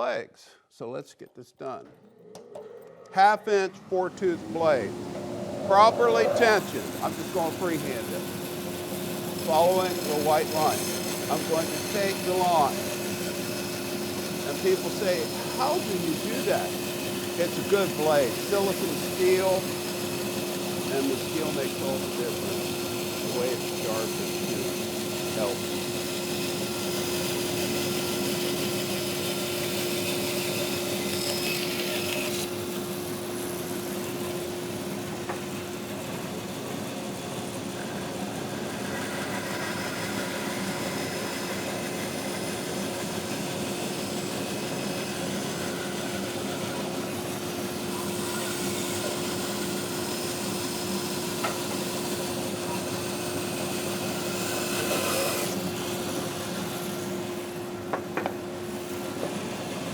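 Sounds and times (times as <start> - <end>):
motor hum: 1.6 - 51.9
bandsaw cutting wood: 3.2 - 59.9.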